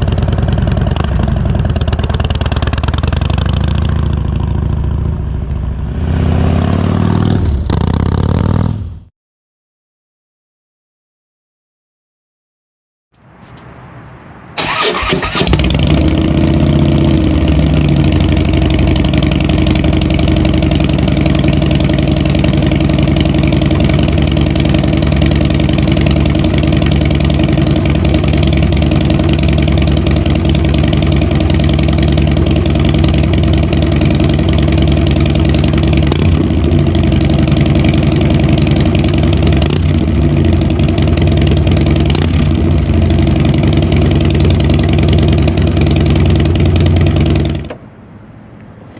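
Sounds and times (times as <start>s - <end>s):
motorcycle engine starting and idling: 0.0s - 8.6s, 14.6s - 48.0s.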